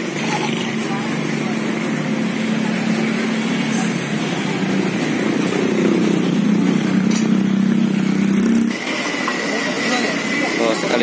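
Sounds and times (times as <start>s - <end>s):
motor vehicle engine running: 0.0s - 11.0s.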